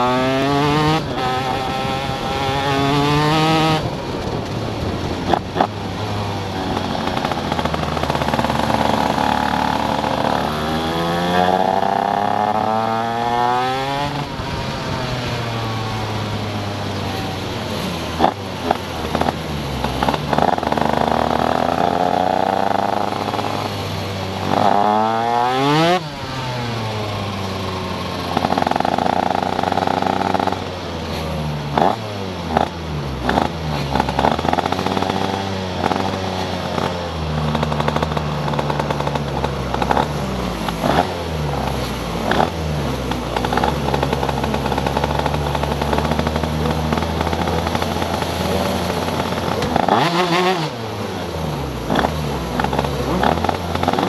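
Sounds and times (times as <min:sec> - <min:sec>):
kart engine running hard: 0:00.0 - 0:54.0.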